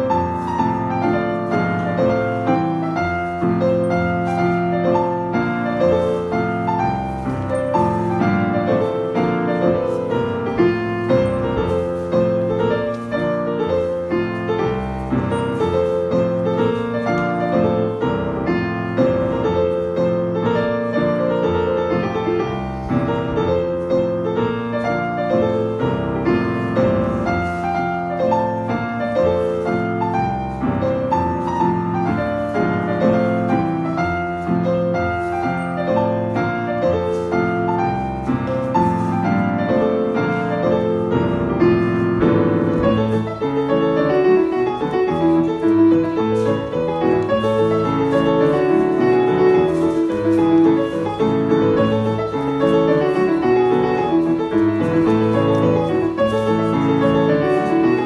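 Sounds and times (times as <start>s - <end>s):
dance music with piano: 0.0s - 58.0s.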